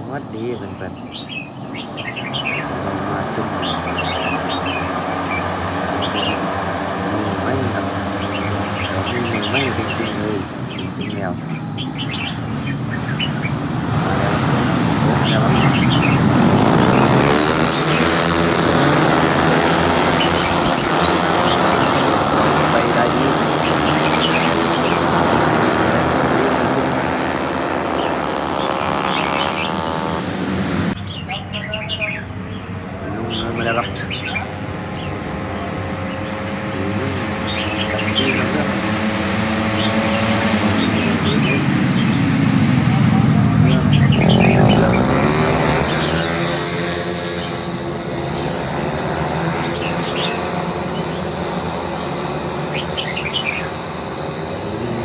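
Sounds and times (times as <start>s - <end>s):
birds chirping: 0.0s - 55.0s
racing engines revving: 0.0s - 55.0s.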